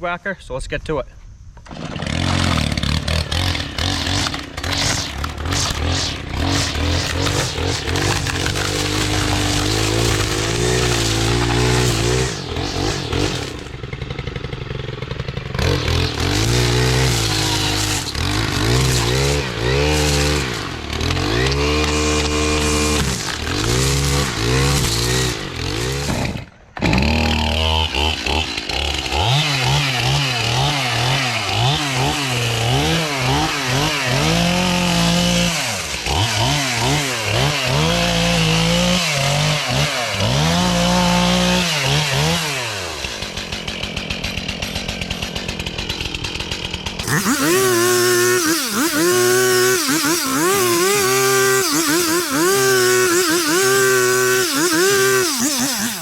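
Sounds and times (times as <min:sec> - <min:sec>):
string trimmer revving: 0:01.6 - 0:56.0.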